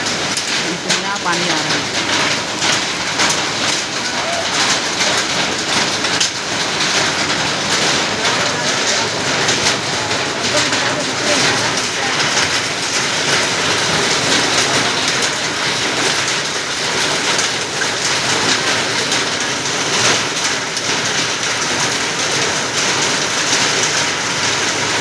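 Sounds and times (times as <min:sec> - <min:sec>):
steady rainfall: 0:00.0 - 0:25.0.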